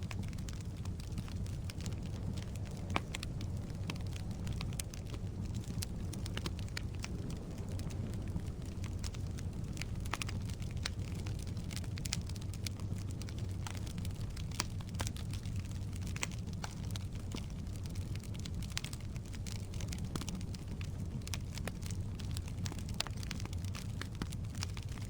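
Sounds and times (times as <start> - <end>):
fire rumbling: 0.0 - 25.0
logs crackling and popping: 0.0 - 25.0.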